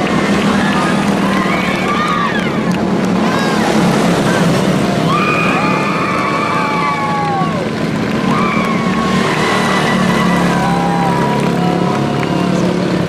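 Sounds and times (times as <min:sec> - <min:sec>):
small race car engines: 0:00.0 - 0:13.0.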